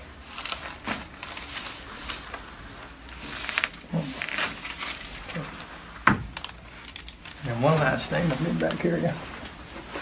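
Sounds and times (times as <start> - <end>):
rustling and handling: 0.0 - 10.0.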